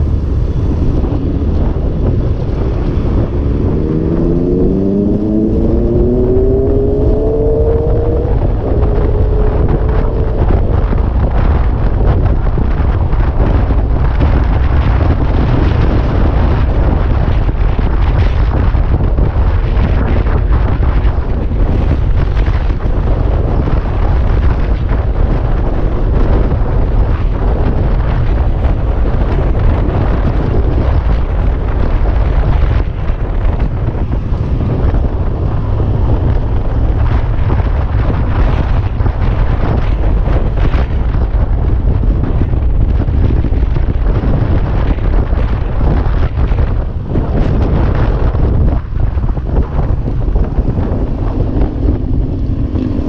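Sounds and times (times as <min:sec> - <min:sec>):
scooter engine whine: 0:00.0 - 0:53.0
wind buffeting microphone: 0:00.0 - 0:53.0.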